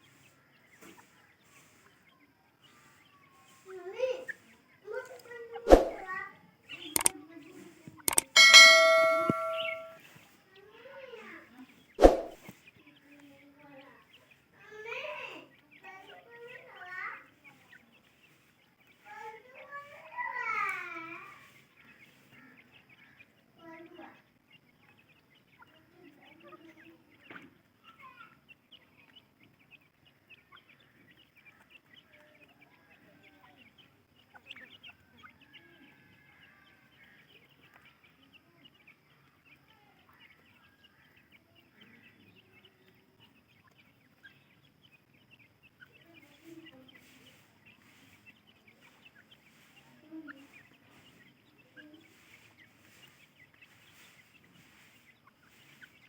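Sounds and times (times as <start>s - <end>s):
chicks cheeping: 0.0s - 56.0s.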